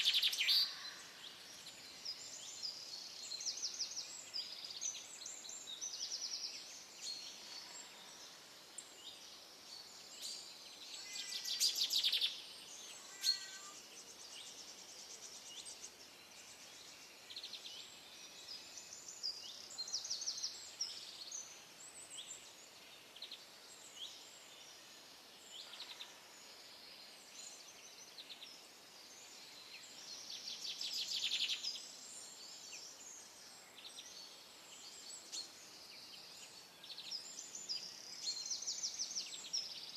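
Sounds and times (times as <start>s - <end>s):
faint steady hiss: 0.0s - 39.9s
small birds chirping: 0.0s - 39.9s.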